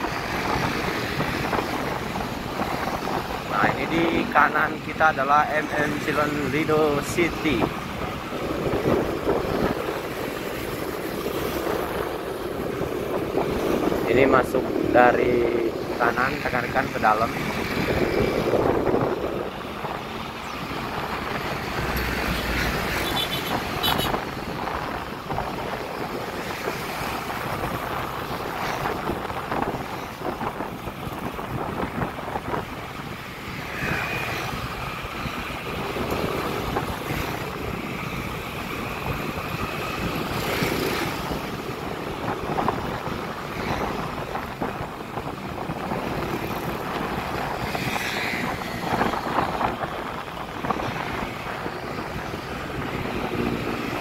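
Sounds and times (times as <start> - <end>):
scooter engine and road noise: 0.0 - 54.0
wind on microphone: 0.0 - 54.0.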